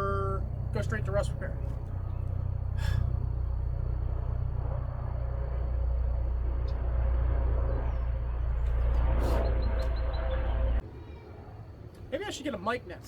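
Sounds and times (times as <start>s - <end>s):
low mechanical rumble: 0.0s - 10.8s.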